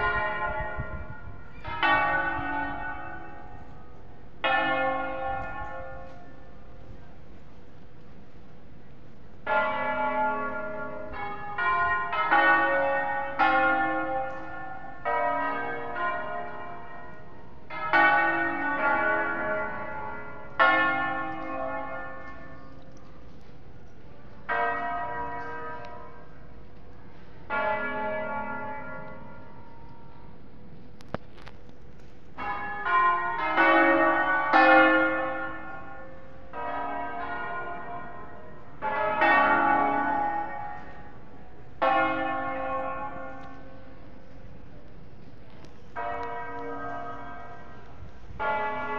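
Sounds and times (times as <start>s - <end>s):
church bells ringing: 0.0s - 31.4s, 32.2s - 48.9s.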